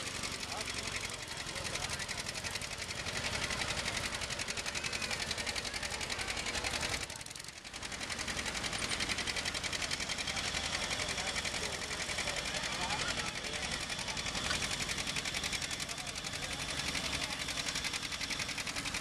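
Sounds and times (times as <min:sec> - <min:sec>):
two-cylinder engine popping exhaust: 0:00.0 - 0:19.0.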